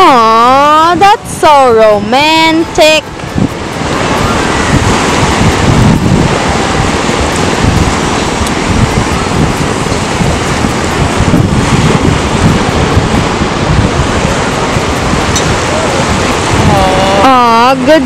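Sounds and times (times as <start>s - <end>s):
small waves washing on sand: 0.0s - 18.0s
wind buffeting microphone: 0.0s - 18.0s.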